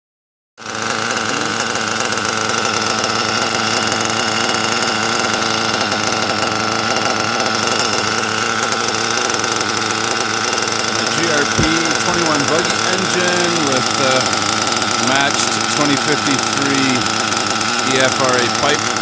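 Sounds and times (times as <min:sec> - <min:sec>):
model nitro engine buzzing: 0:00.6 - 0:19.0.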